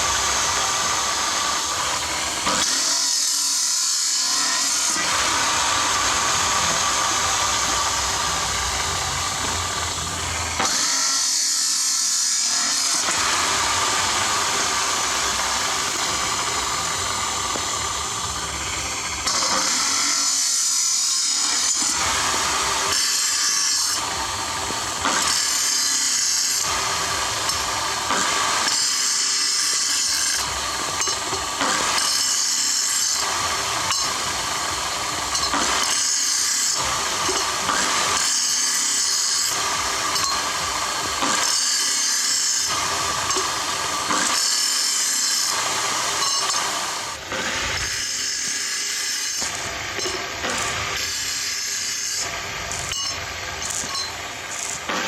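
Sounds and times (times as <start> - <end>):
power tool working metal: 0.0 - 55.0.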